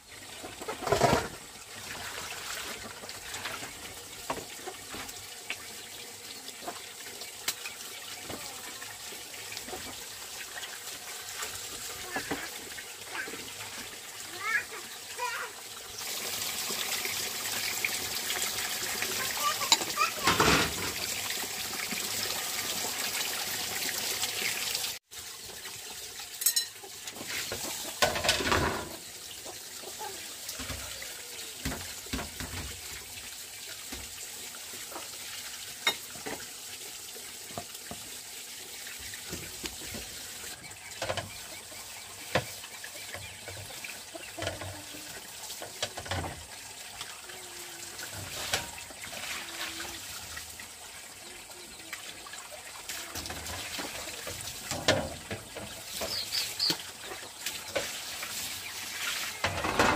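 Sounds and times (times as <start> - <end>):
water running: 0.0 - 59.9
water trickling: 0.0 - 59.9.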